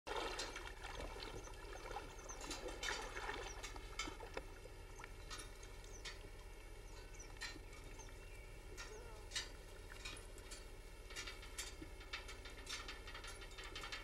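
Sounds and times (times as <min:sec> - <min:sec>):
water sloshing: 0:00.1 - 0:14.0.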